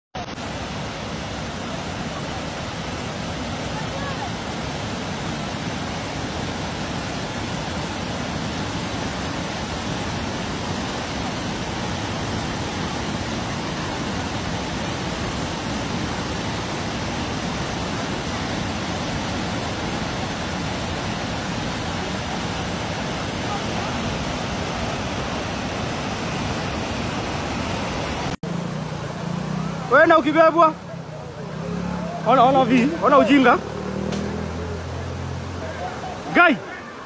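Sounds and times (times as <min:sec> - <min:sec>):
floodwater rushing: 0:00.2 - 0:37.0.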